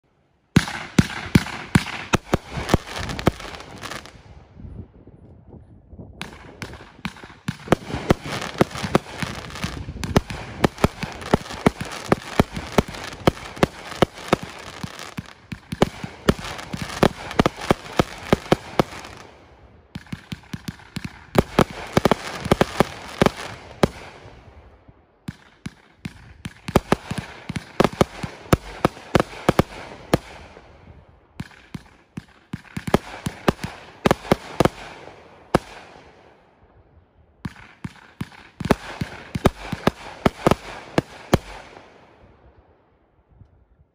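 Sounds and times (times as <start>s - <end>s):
fireworks bangs: 0.6s - 4.4s, 6.2s - 36.4s, 37.4s - 42.4s.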